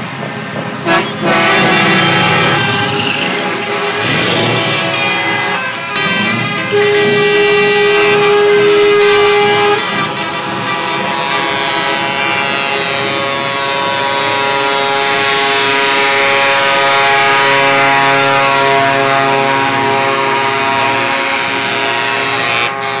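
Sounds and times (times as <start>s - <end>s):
diesel truck engines running: 0.0s - 23.0s
truck air horns blasting: 0.8s - 23.0s.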